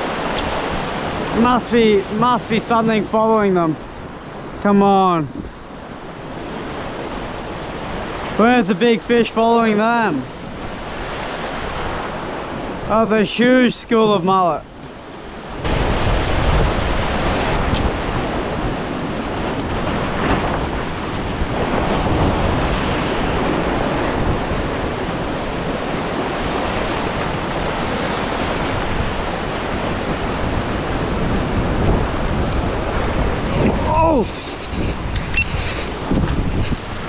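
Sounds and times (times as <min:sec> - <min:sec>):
wind buffeting microphone: 0:00.0 - 0:08.7, 0:14.7 - 0:37.0
ocean surf breaking on rocks: 0:00.0 - 0:37.0.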